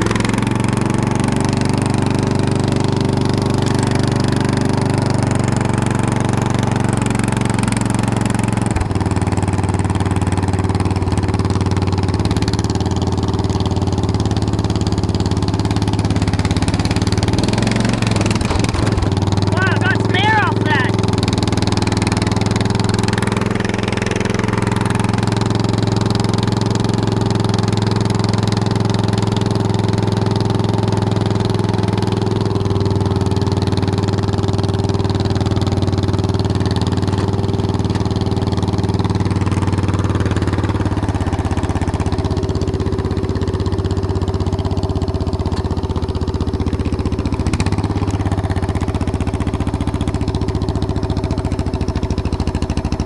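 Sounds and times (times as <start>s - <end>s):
lawn tractor engine running: 0.0s - 53.0s.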